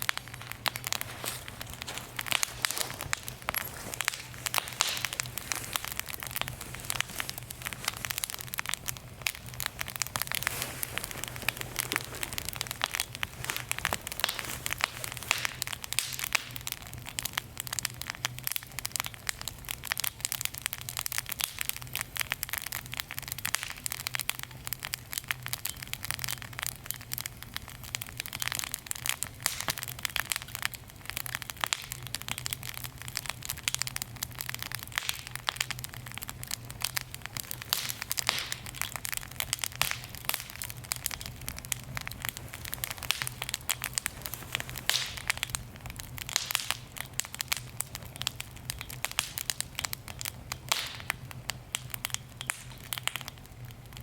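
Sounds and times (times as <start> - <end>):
steady low hum: 0.0 - 54.0
wood fire crackling and popping: 0.0 - 54.0.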